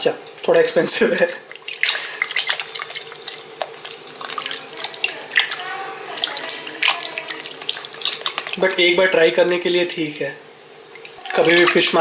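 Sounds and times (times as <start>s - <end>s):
water sloshing in a steel pot: 1.0s - 12.0s
hand rubbing fish in water: 1.1s - 9.6s, 10.7s - 12.0s.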